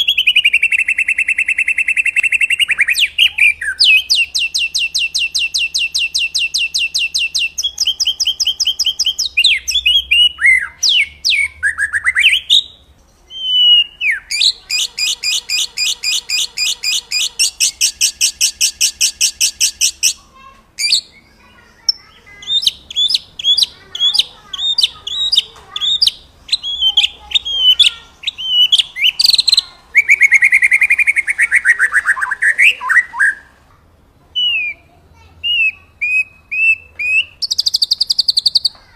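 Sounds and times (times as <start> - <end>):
songbird trilling and whistling: 0.0 - 33.6, 34.4 - 38.9.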